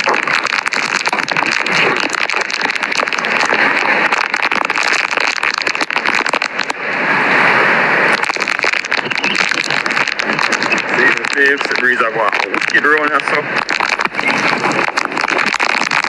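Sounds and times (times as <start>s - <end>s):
gusting wind on microphone: 0.0s - 16.0s
raindrops crackling: 0.0s - 16.0s.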